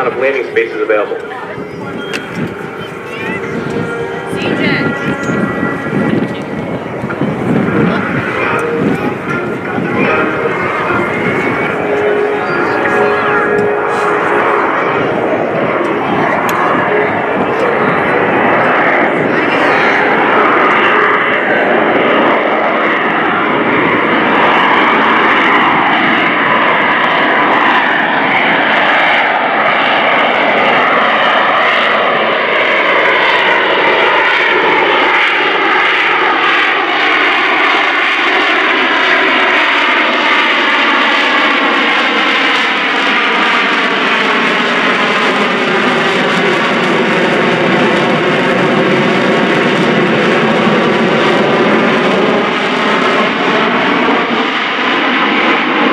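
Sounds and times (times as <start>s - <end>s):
jet engine roar and whine: 0.0s - 55.9s.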